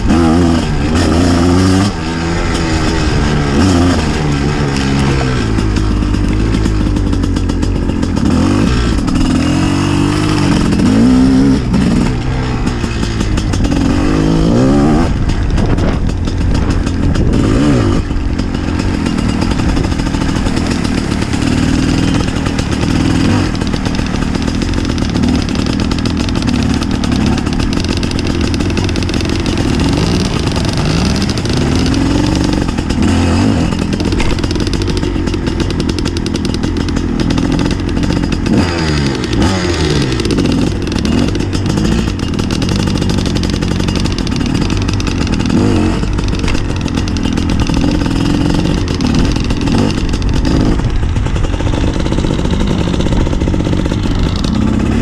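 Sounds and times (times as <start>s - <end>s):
motorcycle engine revving: 0.0s - 55.0s
wheels splashing through water: 0.0s - 55.0s.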